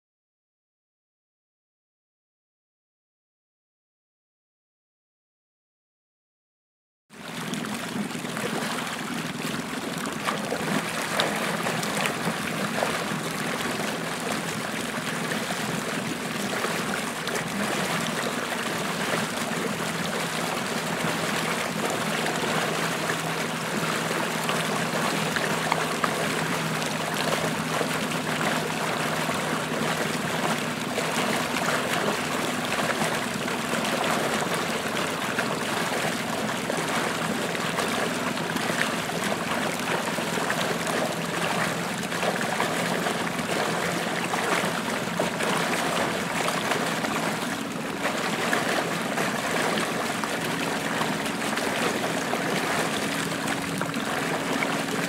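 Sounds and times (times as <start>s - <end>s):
boat motor humming: 7.2s - 55.0s
water rushing and splashing: 7.2s - 55.0s.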